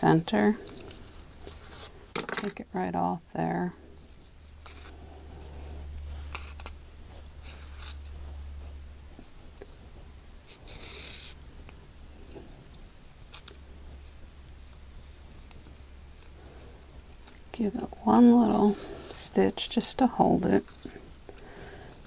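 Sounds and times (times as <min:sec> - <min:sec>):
low steady hum: 0:00.0 - 0:22.0
ribbon rustling: 0:00.4 - 0:02.2, 0:03.9 - 0:22.0.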